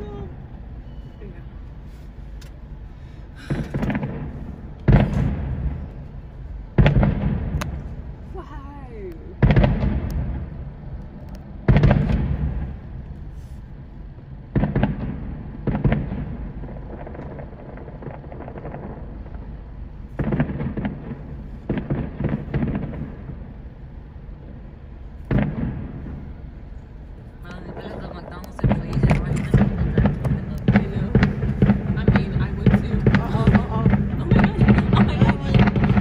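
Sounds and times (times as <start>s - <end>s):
fireworks booming: 3.2s - 8.4s, 9.1s - 36.0s.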